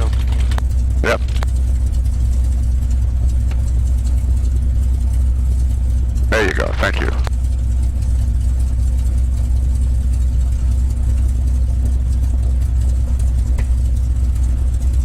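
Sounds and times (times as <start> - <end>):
aircraft engine idling: 0.0 - 15.0.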